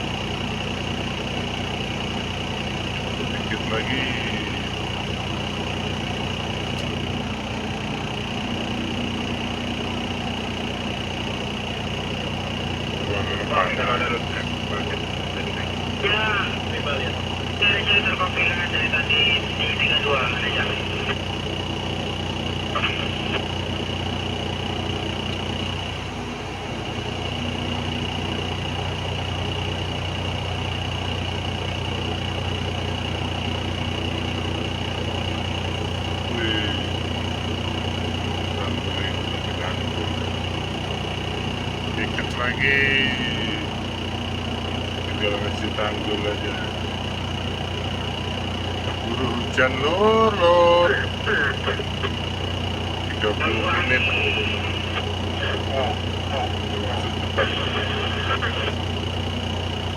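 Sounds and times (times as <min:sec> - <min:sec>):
engine idling: 0:00.0 - 0:59.9
thin high whine: 0:00.0 - 0:59.9.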